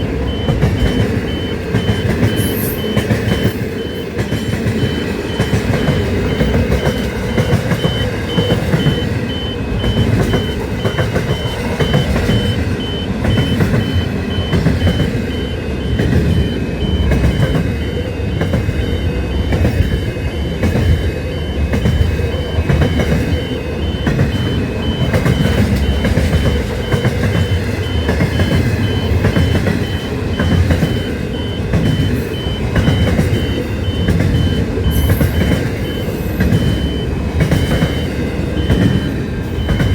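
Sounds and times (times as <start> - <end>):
high-pitched steady tone: 0.0 - 39.9
train rumbling: 0.0 - 39.9.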